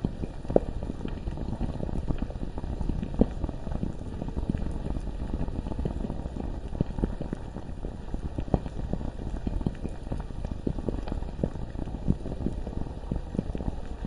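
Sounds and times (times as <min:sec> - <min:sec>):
lava popping and gurgling: 0:00.0 - 0:14.0.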